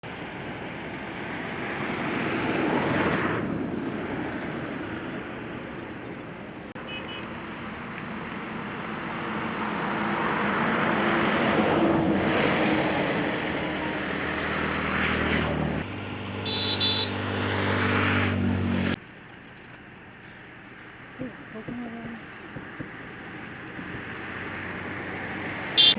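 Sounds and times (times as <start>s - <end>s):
motor vehicle running: 0.2s - 25.9s.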